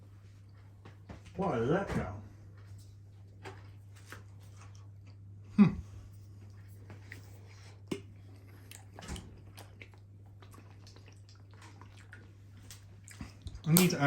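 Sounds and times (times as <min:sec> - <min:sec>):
faint chewing: 0:00.2 - 0:01.3, 0:02.3 - 0:14.0.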